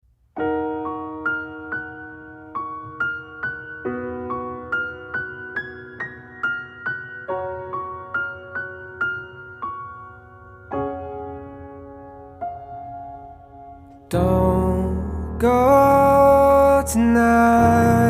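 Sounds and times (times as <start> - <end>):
gentle piano melody: 0.2 - 18.0.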